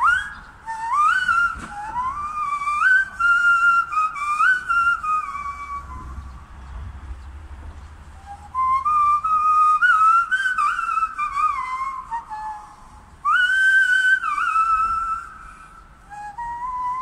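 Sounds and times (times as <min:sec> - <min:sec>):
person hand whistling a tune: 0:00.0 - 0:06.4, 0:08.2 - 0:17.0.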